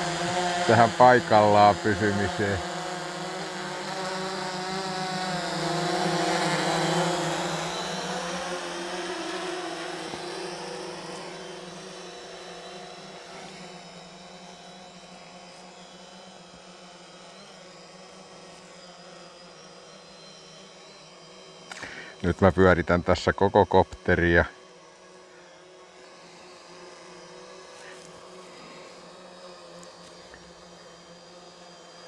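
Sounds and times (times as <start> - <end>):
drone propellers buzzing: 0.0 - 32.0.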